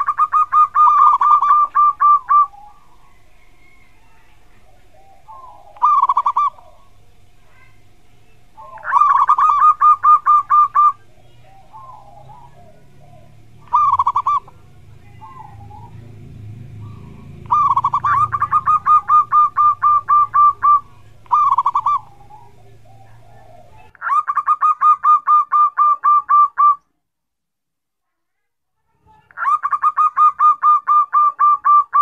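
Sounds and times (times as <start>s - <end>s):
dove cooing: 0.0s - 26.8s, 29.4s - 32.0s
rapid kuk calls: 0.0s - 26.8s.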